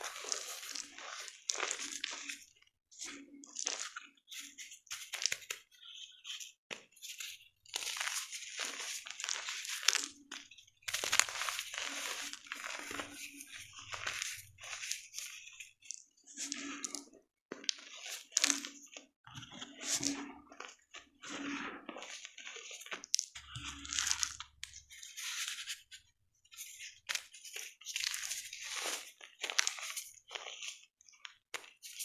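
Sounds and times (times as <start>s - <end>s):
chalk blocks crunching: 0.0s - 32.0s.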